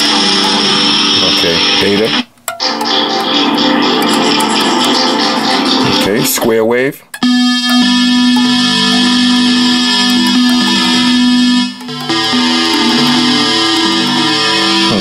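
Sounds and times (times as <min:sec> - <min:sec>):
synth guitar chords: 0:00.0 - 0:15.0.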